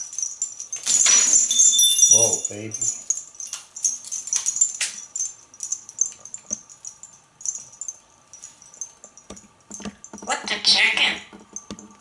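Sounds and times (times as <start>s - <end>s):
light clicks and clinks: 0.0s - 10.4s.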